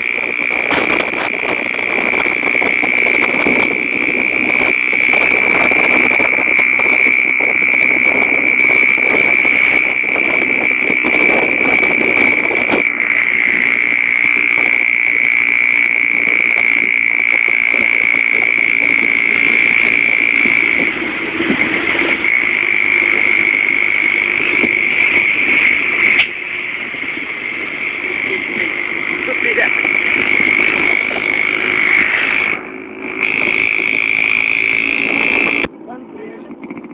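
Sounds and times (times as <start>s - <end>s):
high-pitched whine: 0.0s - 36.9s
road noise: 0.0s - 36.9s
vehicle engine: 0.0s - 36.9s.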